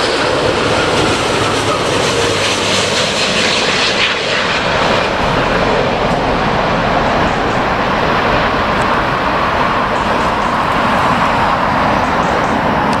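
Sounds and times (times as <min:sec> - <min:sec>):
airliner jet engine: 0:00.0 - 0:13.0.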